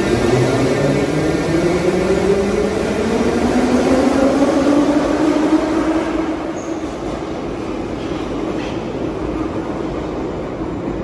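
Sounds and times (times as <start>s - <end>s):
metro train running on track: 0.0s - 11.0s.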